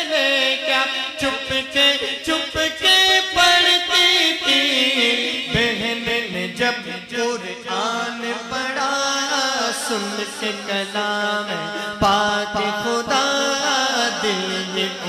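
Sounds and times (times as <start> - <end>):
men singing devotional chant: 0.0 - 15.0.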